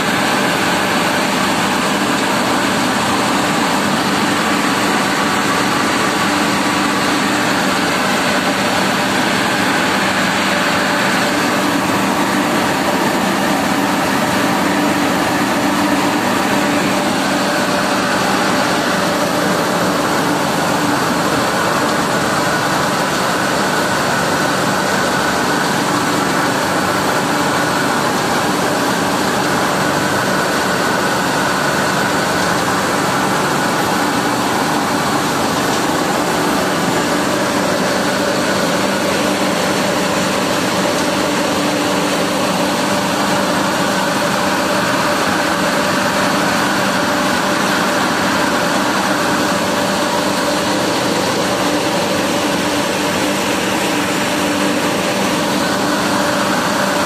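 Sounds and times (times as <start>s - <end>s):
industrial blower air rush: 0.0s - 57.0s
motor and fan hum: 0.0s - 57.0s.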